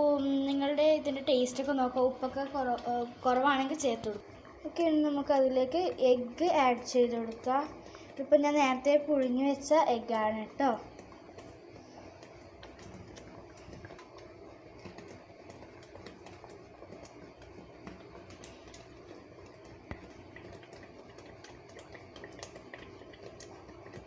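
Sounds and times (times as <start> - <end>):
gravy simmering with popping: 0.0 - 24.0
low steady hum: 0.0 - 24.0.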